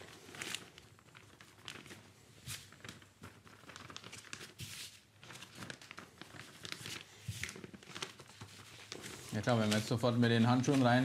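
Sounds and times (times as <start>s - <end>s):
plastic sheet crinkling: 0.0s - 11.0s.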